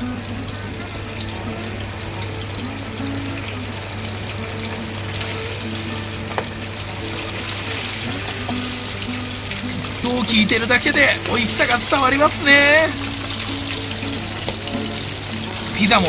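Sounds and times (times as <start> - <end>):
deep-frying sizzle and bubbling: 0.0 - 16.0.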